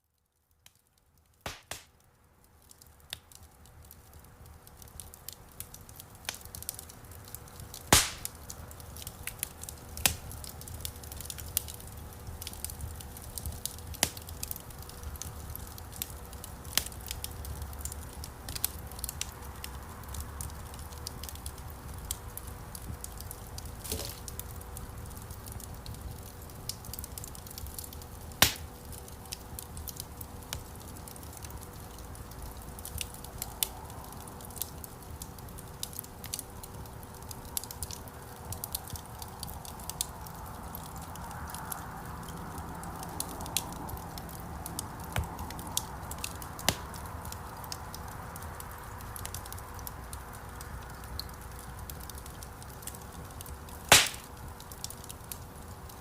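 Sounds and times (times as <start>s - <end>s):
soft hiss: 0.0s - 52.7s, 53.6s - 55.0s
campfire crackling and popping: 0.2s - 56.0s
low rumble of flame: 0.2s - 56.0s.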